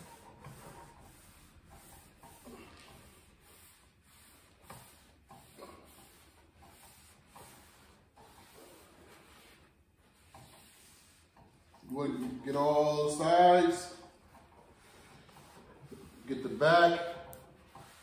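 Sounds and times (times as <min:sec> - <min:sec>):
paper towel rubbing on steel: 0:00.0 - 0:18.0.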